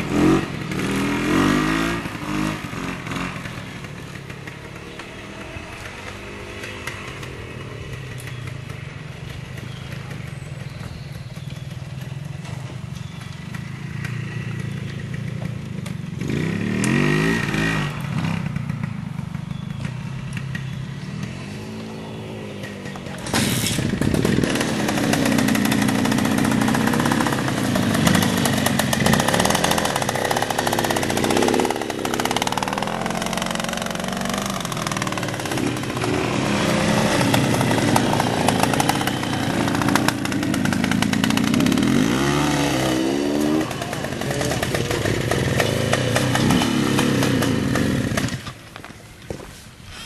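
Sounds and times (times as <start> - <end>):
motorcycle engine revving: 0.0 - 48.7.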